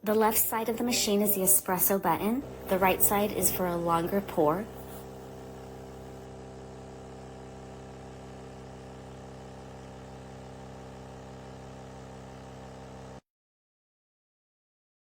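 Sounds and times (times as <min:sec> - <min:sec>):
espresso machine pump buzzing: 0:00.0 - 0:13.2.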